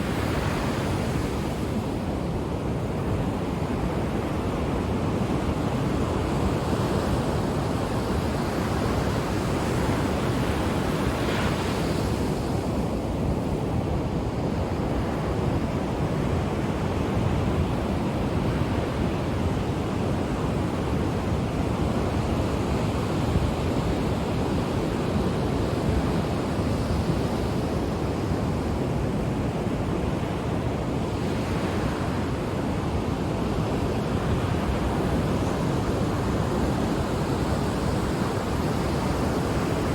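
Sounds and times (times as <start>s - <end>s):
ocean surf on shore: 0.0s - 39.9s.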